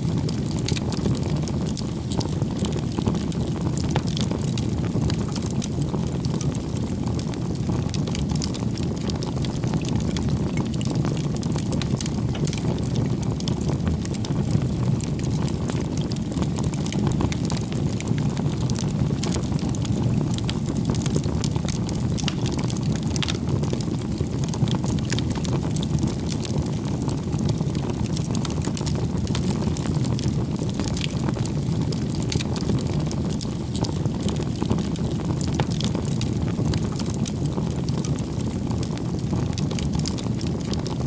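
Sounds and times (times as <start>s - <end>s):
bonfire flames crackling: 0.0s - 41.0s.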